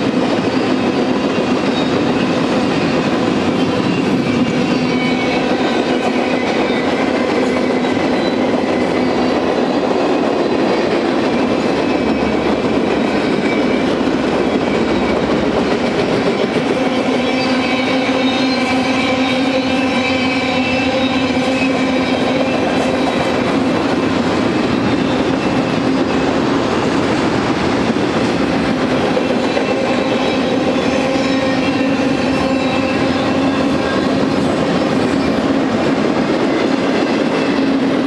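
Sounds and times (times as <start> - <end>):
steel train wheels rumbling on rail: 0.0 - 38.0.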